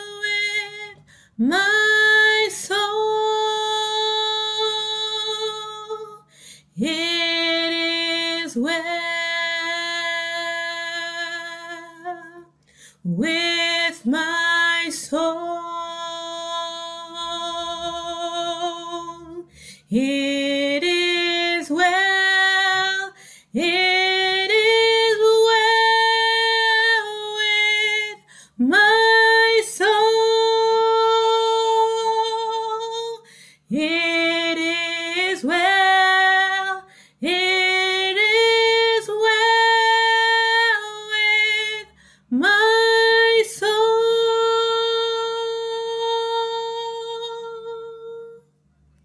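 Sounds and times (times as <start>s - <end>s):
woman singing a hymn unaccompanied: 0.0s - 48.6s.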